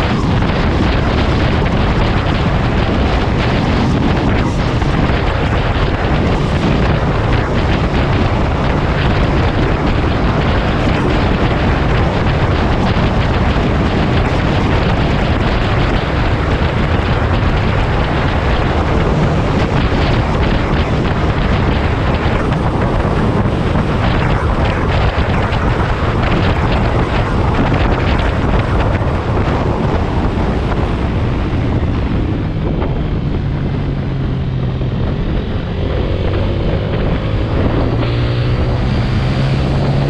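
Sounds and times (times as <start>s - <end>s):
motorcycle engine and tyre noise: 0.0s - 40.0s
wind rush on microphone: 0.0s - 40.0s.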